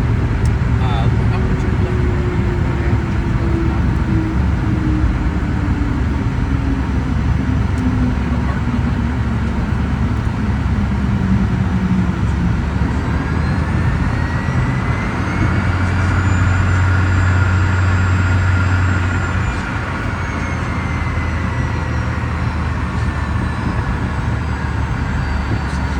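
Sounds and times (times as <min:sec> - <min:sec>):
jet engine whine: 0:00.0 - 0:25.9.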